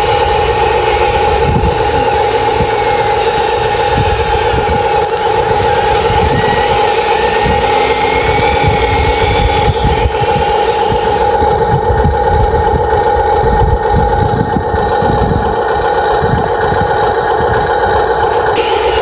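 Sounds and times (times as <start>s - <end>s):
excavator engine drone: 0.0s - 19.0s
steady whine: 0.0s - 19.0s
uneven low rumble: 0.0s - 19.0s.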